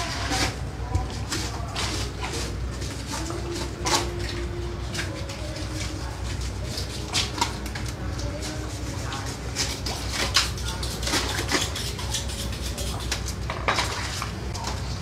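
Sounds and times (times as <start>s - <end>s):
steady low hum: 0.0s - 15.0s
knife scraping fish skin: 1.3s - 14.3s.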